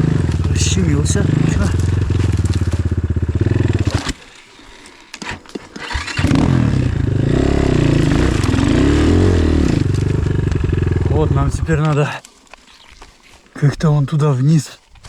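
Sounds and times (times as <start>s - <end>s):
motorcycle engine idling and revving: 0.0s - 12.1s.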